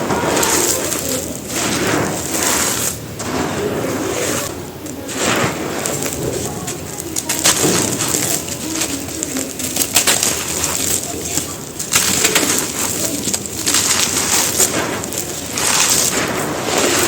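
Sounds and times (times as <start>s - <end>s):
gravel chunks crunching and crumbling: 0.0s - 17.0s.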